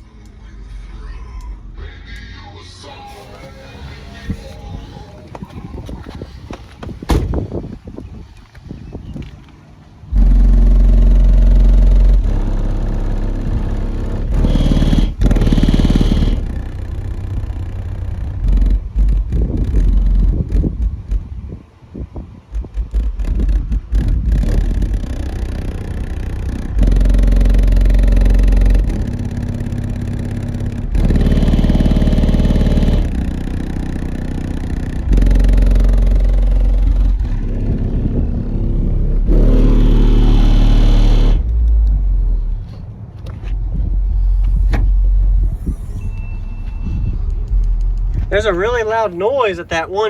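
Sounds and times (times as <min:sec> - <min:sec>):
heavy deep bass music: 0:00.0 - 0:06.0, 0:10.1 - 0:50.0.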